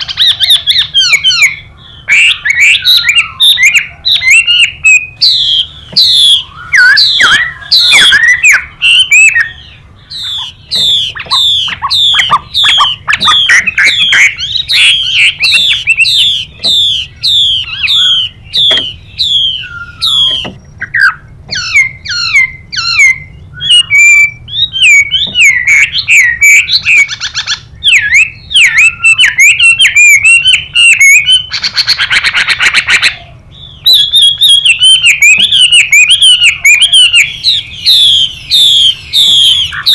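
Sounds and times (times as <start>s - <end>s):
bird singing loud whistled notes: 0.0s - 39.9s.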